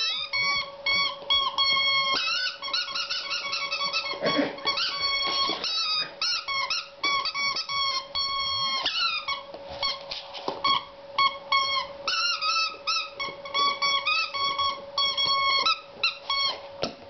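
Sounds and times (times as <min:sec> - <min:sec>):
squeaky toy squeaking: 0:00.0 - 0:10.0, 0:10.7 - 0:16.6.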